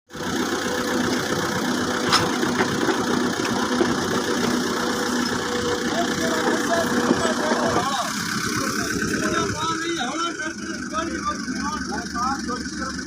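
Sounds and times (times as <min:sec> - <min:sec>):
tractor engine idling: 0:00.1 - 0:13.0.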